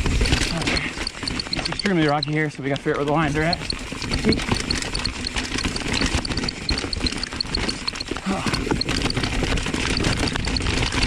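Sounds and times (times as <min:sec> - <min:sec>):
bike rattling over rock: 0:00.0 - 0:11.0
high-pitched ticking: 0:00.2 - 0:11.0.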